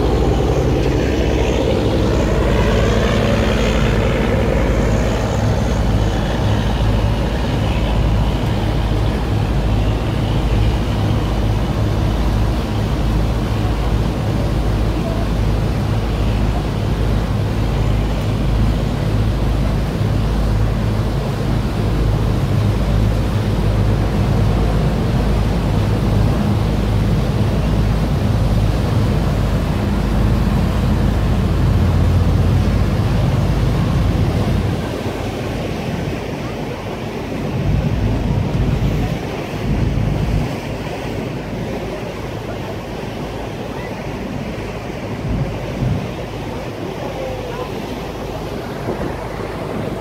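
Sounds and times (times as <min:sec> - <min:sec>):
boat engine drone: 0:00.0 - 0:50.0
water rushing: 0:00.0 - 0:50.0
wind buffeting microphone: 0:00.0 - 0:50.0.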